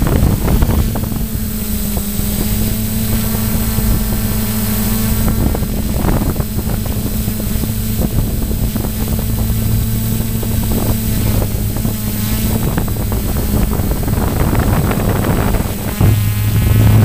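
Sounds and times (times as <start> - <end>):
model airplane motor humming: 0.0 - 17.0
wind buffeting microphone: 0.0 - 17.0.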